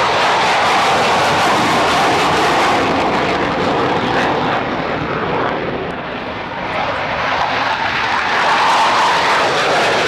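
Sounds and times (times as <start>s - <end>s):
jet aircraft noise: 0.0s - 10.0s.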